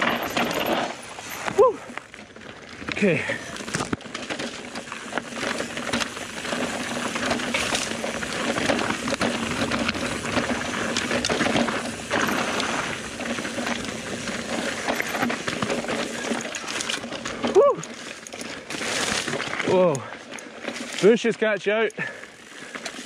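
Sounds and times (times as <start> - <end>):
bike rattling: 0.0 - 23.0
bike tyres crunching on gravel: 0.0 - 23.0.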